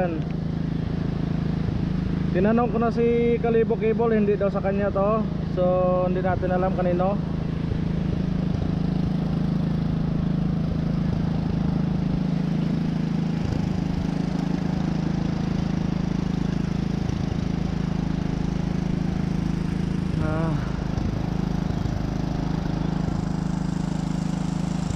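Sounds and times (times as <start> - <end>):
engine humming steadily: 0.0 - 24.9.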